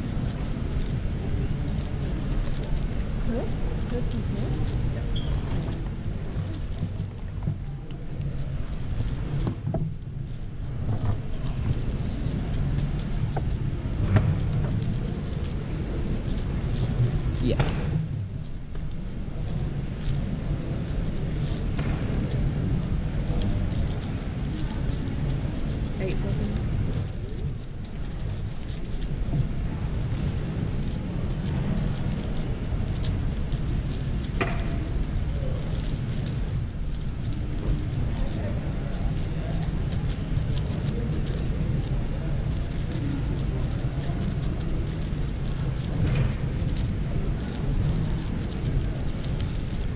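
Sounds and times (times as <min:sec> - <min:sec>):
background murmur: 0:00.0 - 0:49.9
low hall rumble: 0:00.0 - 0:49.9.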